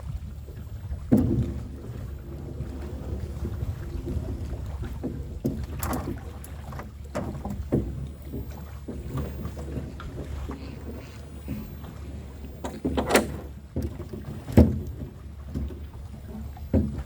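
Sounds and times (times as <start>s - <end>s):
gear knocking in boat: 0.0s - 17.0s
steady low rumble: 0.0s - 17.0s.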